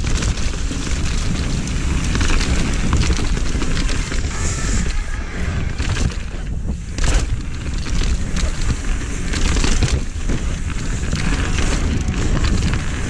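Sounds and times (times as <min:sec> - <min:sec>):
bike rattling: 0:00.0 - 0:13.0
bike tyres rolling over dirt: 0:00.0 - 0:13.0
wind rumble on microphone: 0:00.0 - 0:13.0.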